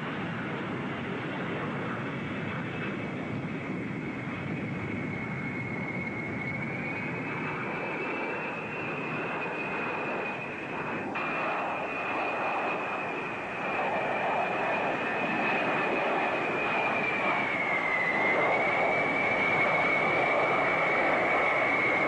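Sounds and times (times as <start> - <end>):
jet engine roar with whine: 0.0 - 22.0.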